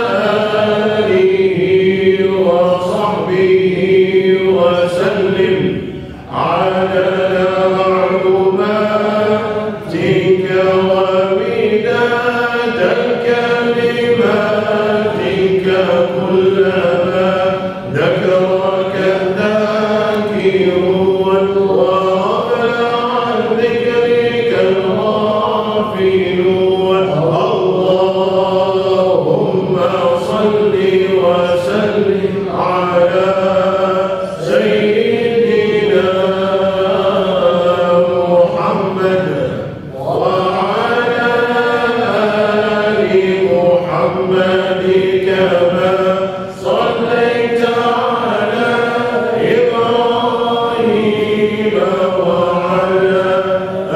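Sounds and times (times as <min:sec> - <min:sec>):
group of voices chanting: 0:00.0 - 0:53.9.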